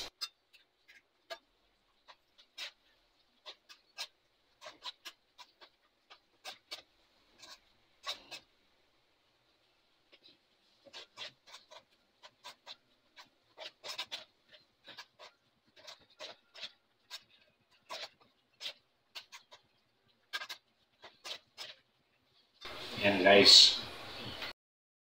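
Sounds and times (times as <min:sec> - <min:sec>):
hand mixing wet food squelches: 0:00.0 - 0:23.1.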